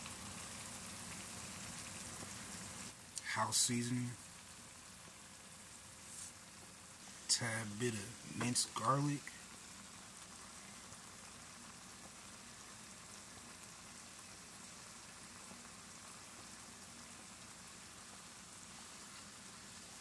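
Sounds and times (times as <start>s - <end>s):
beans simmering in a skillet: 0.0s - 20.0s.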